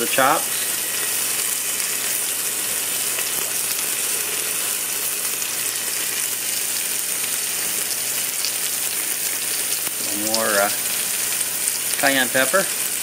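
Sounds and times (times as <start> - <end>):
pork chops sizzling in butter: 0.0 - 13.0.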